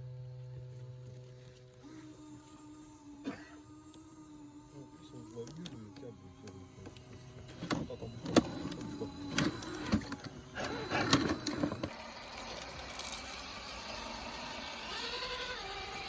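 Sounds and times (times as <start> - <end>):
electric motor and gears whining: 0.0 - 16.0.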